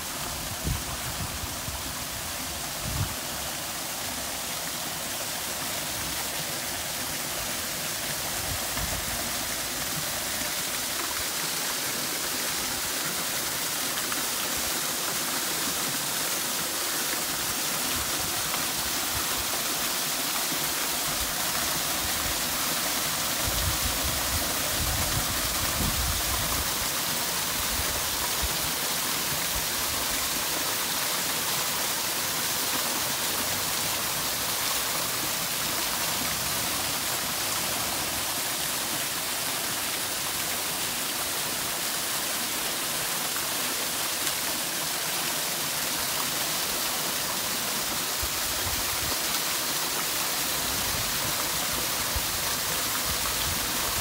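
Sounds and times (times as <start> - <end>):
fountain water splashing on rocks: 0.0 - 54.0.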